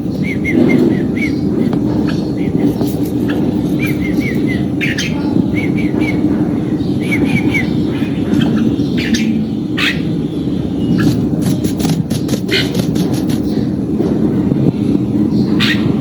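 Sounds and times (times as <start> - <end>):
bird calling: 0.0 - 13.8.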